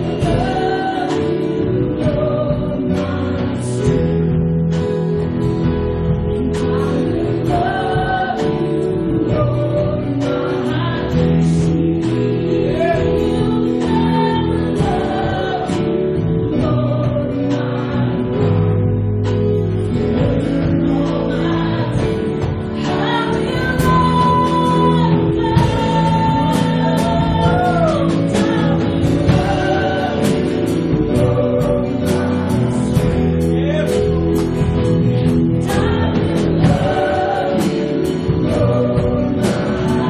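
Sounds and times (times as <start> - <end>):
person singing: 0.0 - 4.3, 6.2 - 18.8, 20.1 - 35.0, 35.6 - 40.0
worship band playing: 0.0 - 40.0.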